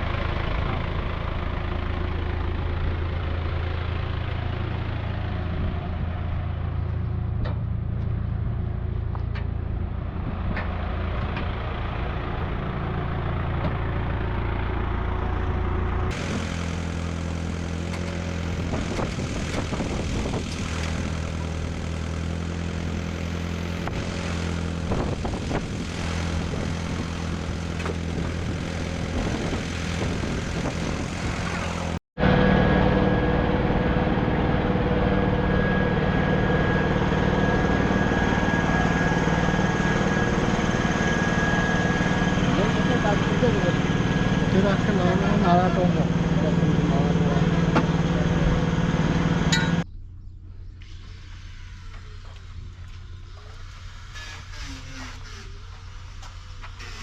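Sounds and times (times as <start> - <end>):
machinery humming: 10.8 - 57.0.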